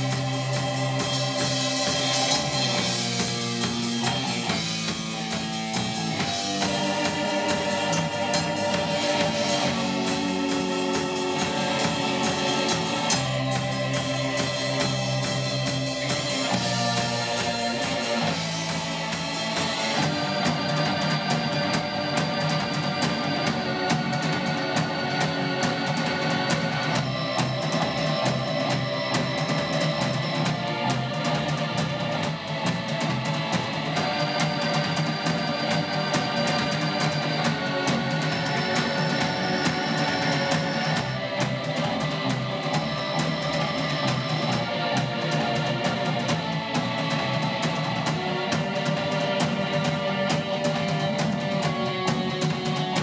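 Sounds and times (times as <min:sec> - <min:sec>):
drum kit beat: 0:00.0 - 0:53.0
guitar: 0:00.0 - 0:53.0
keyboard chords: 0:00.0 - 0:53.0.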